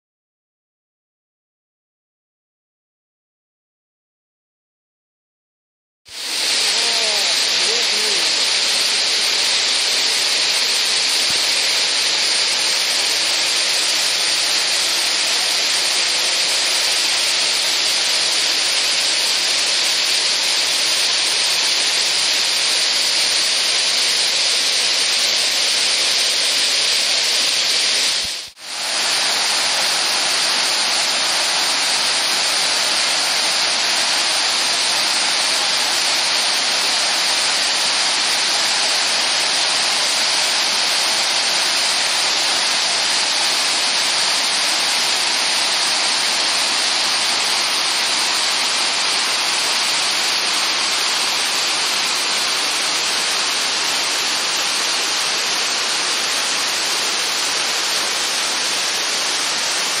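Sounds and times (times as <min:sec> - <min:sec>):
waterfall rushing: 0:06.1 - 1:00.0.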